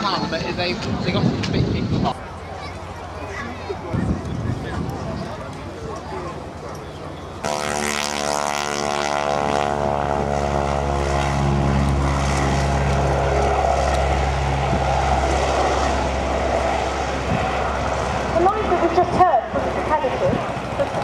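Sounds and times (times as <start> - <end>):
propeller plane taking off: 0.0 - 21.0.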